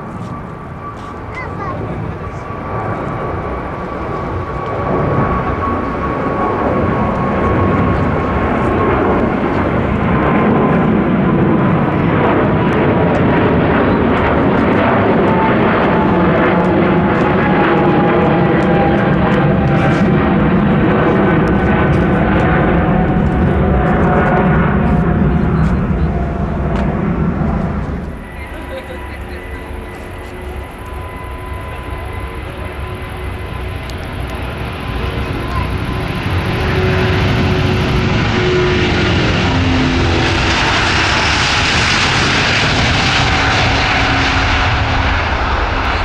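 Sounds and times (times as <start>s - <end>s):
jet airliner engines passing: 0.0s - 46.0s.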